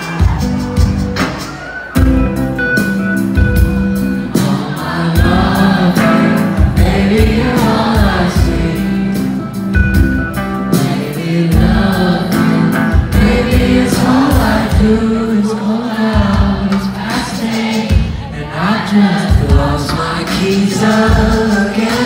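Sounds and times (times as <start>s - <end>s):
live band playing: 0.0s - 22.0s
person singing lead vocal: 4.0s - 22.0s.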